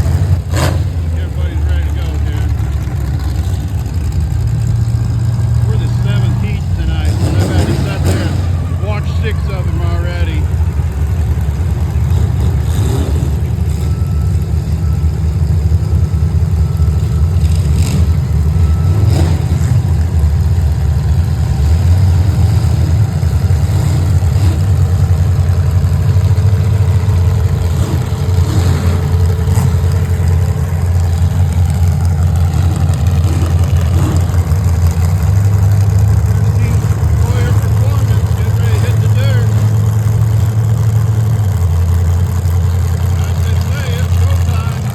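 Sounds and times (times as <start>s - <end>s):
vehicle engine rumbling: 0.0s - 44.9s.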